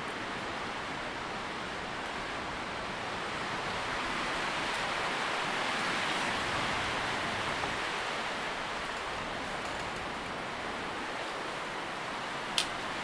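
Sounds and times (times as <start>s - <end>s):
leaves rustling in wind: 0.0s - 13.0s.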